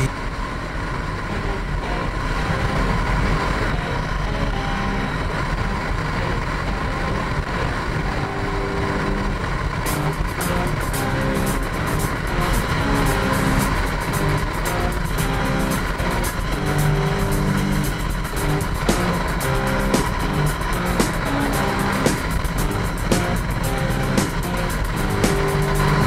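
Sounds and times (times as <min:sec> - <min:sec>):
faint music: 0:00.0 - 0:26.0
motorcycle engine: 0:00.0 - 0:26.0
wind and road noise: 0:00.0 - 0:26.0.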